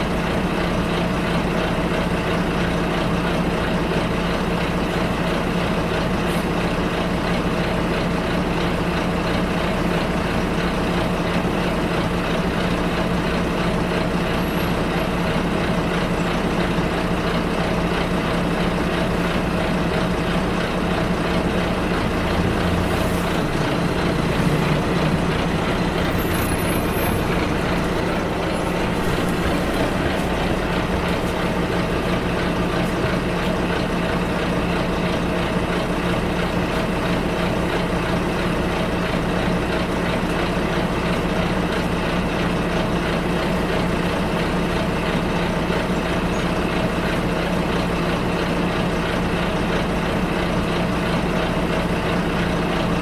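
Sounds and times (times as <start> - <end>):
bus engine droning: 0.0 - 53.0
road noise: 0.0 - 53.0.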